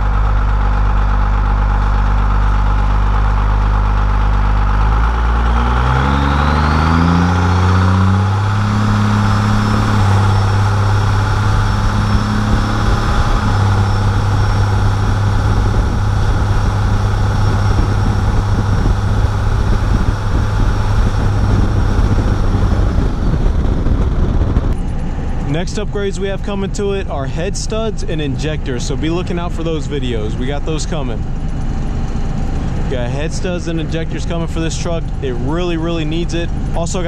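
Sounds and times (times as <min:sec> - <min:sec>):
diesel engine accelerating: 0:00.0 - 0:37.0.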